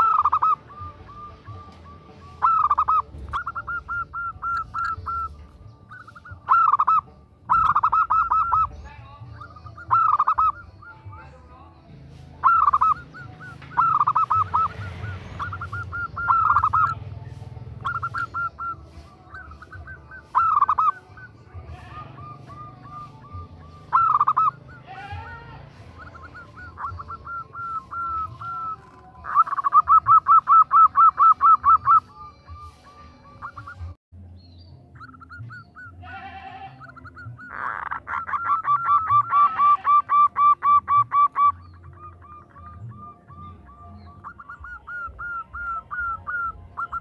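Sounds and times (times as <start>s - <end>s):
doves cooing: 0.0s - 34.0s, 35.0s - 47.0s.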